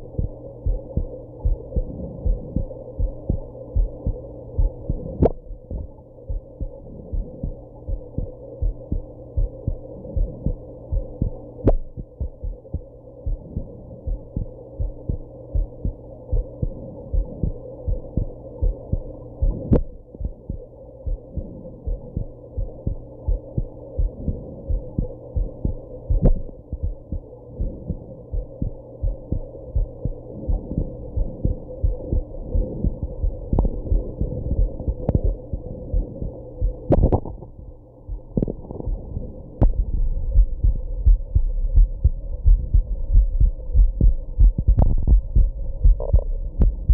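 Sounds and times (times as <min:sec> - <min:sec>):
heartbeat thumps: 0:00.0 - 0:46.9.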